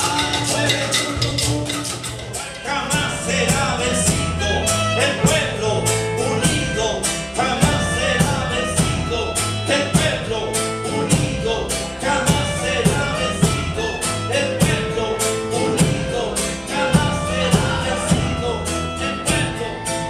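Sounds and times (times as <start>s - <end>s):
person singing: 0.0s - 1.7s, 2.3s - 20.0s
acoustic guitar: 0.0s - 20.0s
hand percussion: 0.0s - 20.0s.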